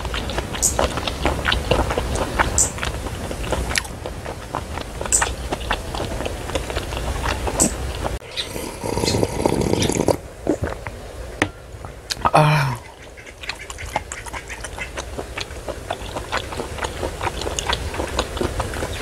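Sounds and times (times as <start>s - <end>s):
sipping and swallowing soup: 0.0s - 10.8s, 12.1s - 19.0s
wet chewing: 0.0s - 10.9s, 12.1s - 19.0s.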